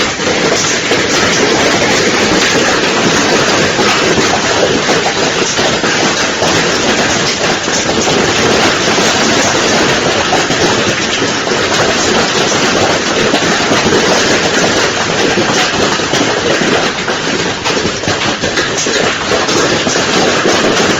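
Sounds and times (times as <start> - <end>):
hail pattering on hard surfaces: 0.0 - 20.9.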